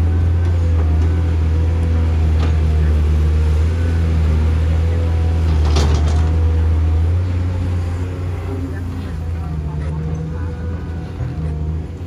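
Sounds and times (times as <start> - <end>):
diesel machinery droning: 0.0 - 12.0.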